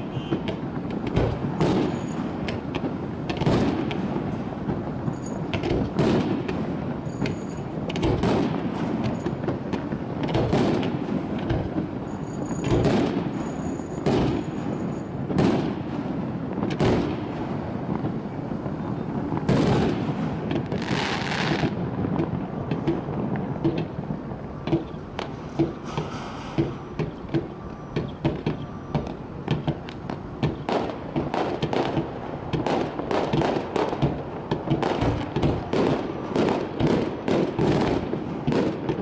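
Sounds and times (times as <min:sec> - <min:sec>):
fireworks bursting: 0:00.0 - 0:39.0.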